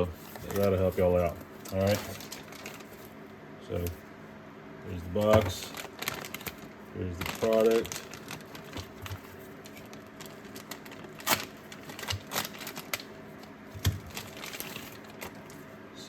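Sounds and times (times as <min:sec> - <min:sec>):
packaging rustling: 0:00.0 - 0:04.0, 0:04.9 - 0:15.7.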